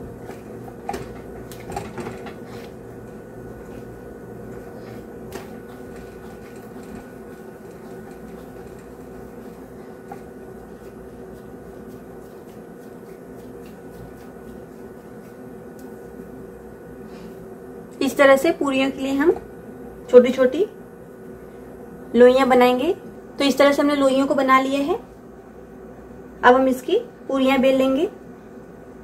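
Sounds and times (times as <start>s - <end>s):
appliance mechanical hum: 0.0s - 29.0s.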